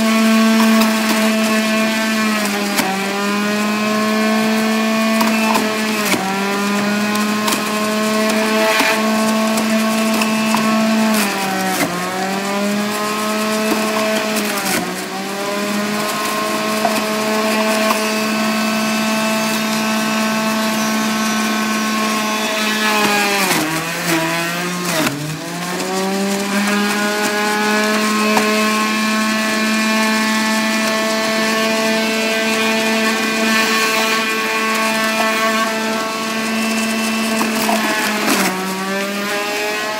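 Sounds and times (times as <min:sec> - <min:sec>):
juicer motor whining: 0:00.0 - 0:39.9.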